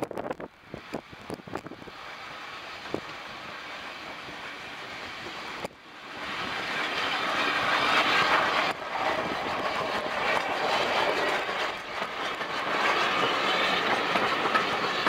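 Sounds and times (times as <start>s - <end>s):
steam locomotive passing: 0.0s - 15.0s.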